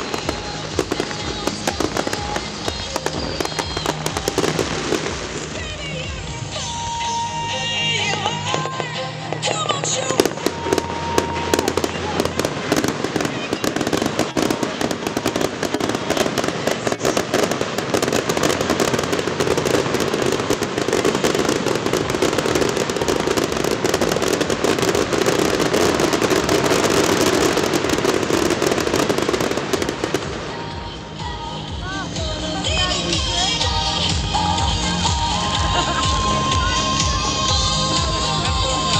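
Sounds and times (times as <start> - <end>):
fireworks crackling and banging: 0.0 - 38.9.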